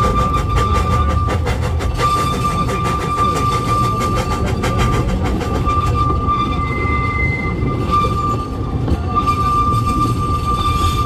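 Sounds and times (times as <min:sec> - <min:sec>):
high-pitched wheel squeal: 0:00.0 - 0:11.0
train wheels rumbling on rails: 0:00.0 - 0:11.0.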